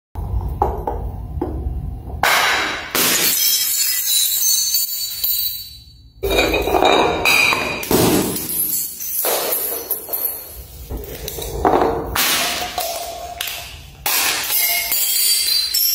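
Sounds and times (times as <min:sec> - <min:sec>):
glass bottle smashing on stairs: 0:02.2 - 0:15.9.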